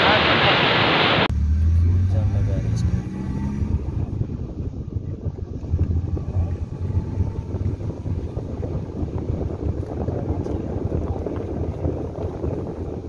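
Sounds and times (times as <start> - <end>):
vehicle engine and road rumble: 1.2 - 13.0.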